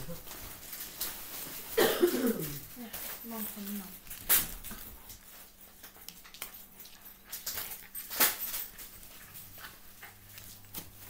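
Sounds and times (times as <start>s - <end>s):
rustling of handled objects: 0.0s - 11.0s.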